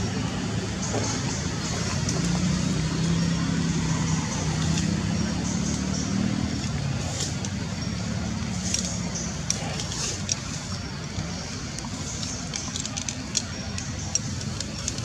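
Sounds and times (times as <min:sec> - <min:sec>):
outdoor background noise: 0:00.0 - 0:15.0
vehicle engine drone: 0:00.0 - 0:15.0.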